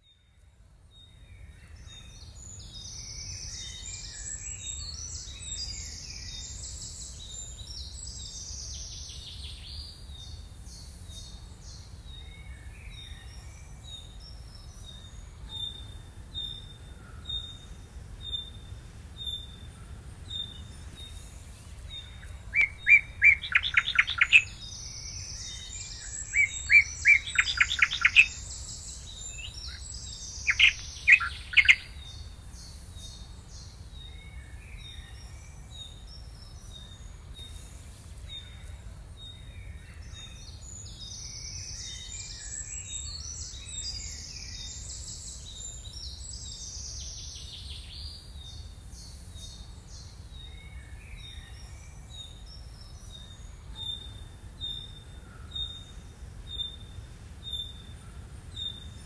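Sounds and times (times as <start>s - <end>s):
small birds chirping: 0.9s - 59.0s.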